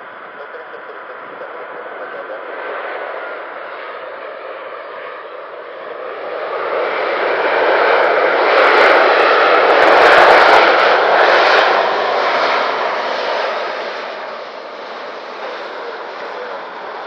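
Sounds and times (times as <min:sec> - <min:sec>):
jet airliner passing: 0:00.0 - 0:17.0.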